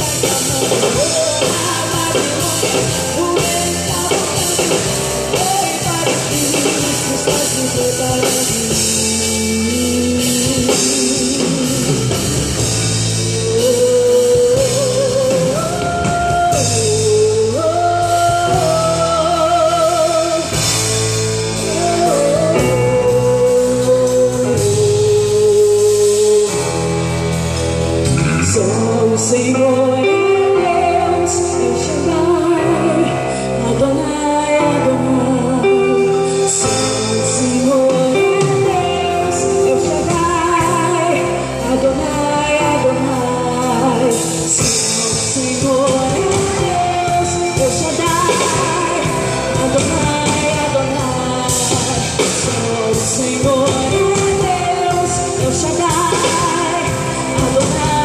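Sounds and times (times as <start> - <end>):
live rock gospel band: 0.0 - 58.0.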